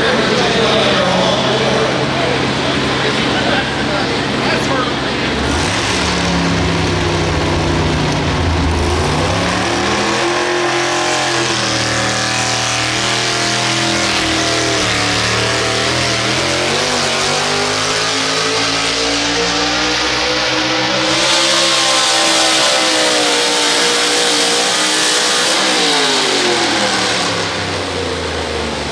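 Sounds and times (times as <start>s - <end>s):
tractor engine at high revs: 0.6s - 28.9s.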